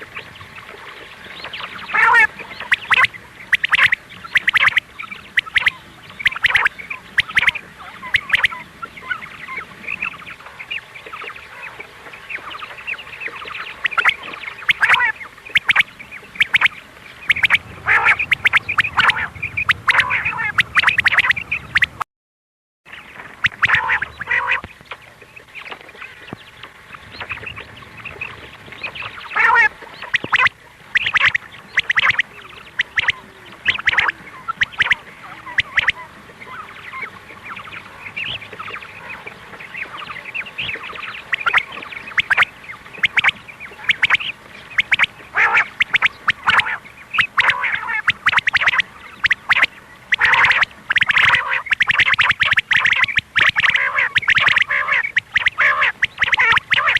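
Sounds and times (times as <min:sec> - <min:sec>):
quail calls: 0:00.0 - 0:22.0, 0:23.4 - 0:24.9, 0:27.0 - 0:56.9.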